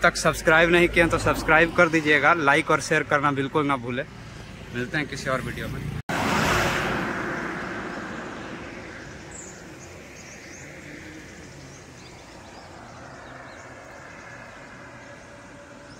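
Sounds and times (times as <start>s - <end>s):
open-air background: 0.0s - 15.9s
road vehicle passing: 0.0s - 15.9s.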